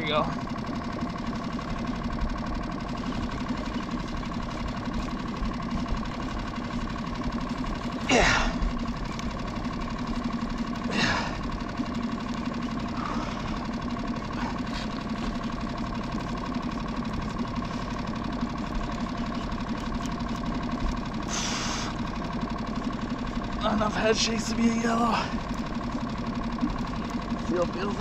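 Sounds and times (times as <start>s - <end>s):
boat motor idling: 0.0s - 28.0s.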